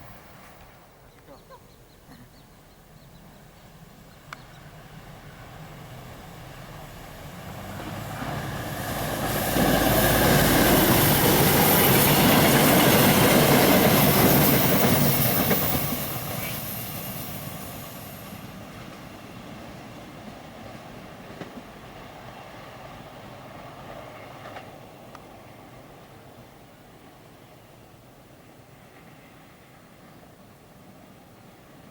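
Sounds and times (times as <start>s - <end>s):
train passing on rails: 0.0s - 31.9s.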